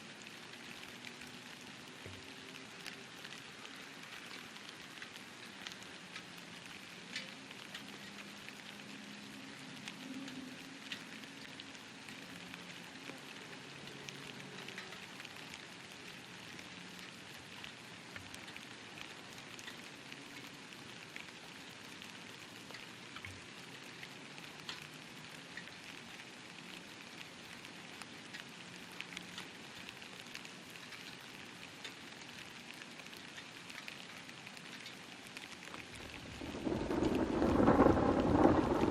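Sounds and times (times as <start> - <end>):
light rain falling: 0.0 - 38.9
raindrops ticking on a surface: 0.0 - 38.9.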